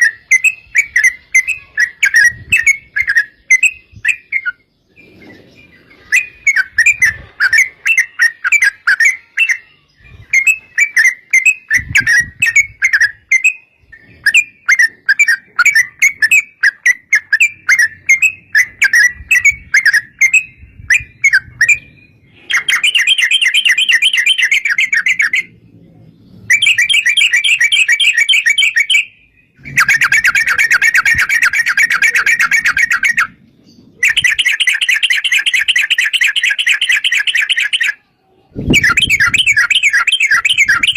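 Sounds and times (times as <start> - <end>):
bulbul singing chattering phrases: 0.0 - 40.9.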